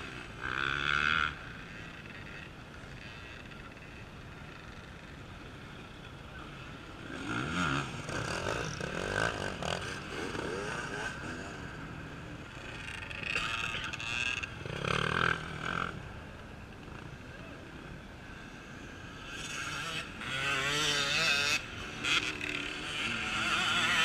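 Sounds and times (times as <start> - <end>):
distant engines humming: 0.0 - 24.0
motorcycle engines revving: 0.0 - 24.0.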